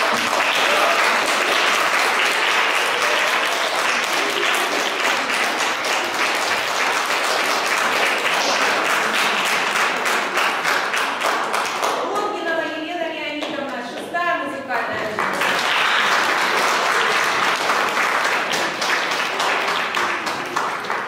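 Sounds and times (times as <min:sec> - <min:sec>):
audience applauding: 0:00.0 - 0:12.2, 0:15.0 - 0:21.0.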